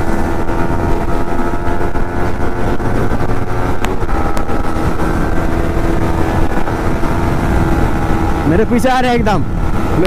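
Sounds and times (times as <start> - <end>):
motorcycle engine running: 0.0 - 10.0
wind noise: 0.0 - 10.0.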